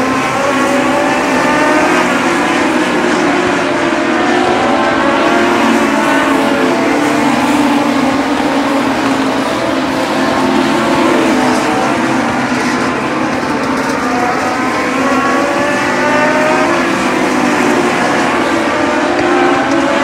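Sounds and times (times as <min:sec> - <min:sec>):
race cars racing past: 0:00.0 - 0:20.0.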